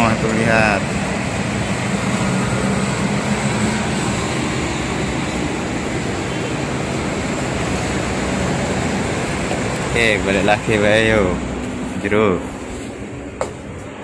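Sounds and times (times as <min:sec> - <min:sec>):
distant city traffic: 0:00.0 - 0:14.0.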